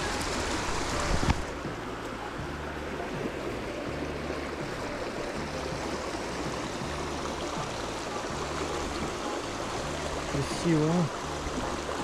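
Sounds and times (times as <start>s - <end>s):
brook water rushing: 0.0s - 12.0s.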